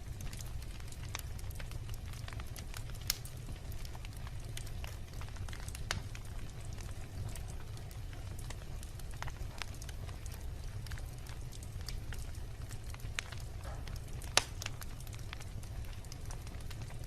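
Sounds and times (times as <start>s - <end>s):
low rumble of burning: 0.0s - 17.0s
wood bonfire crackling: 0.0s - 17.0s.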